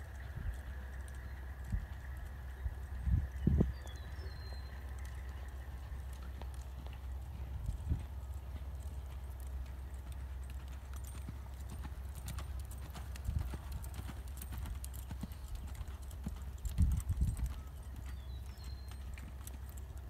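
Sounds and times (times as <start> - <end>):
horse hoofbeats on dirt: 0.0 - 20.0
steady low rumble: 0.0 - 20.0.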